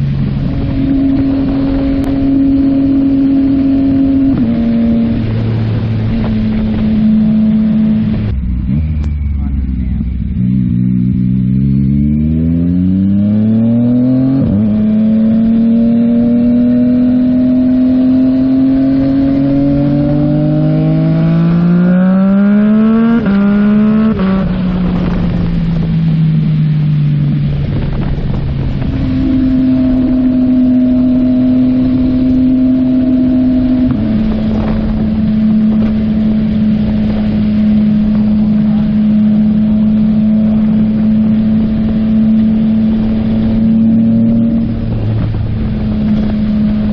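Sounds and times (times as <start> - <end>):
wind on microphone: 0.0 - 8.9, 12.4 - 46.9
motorcycle engine revving: 0.0 - 46.9.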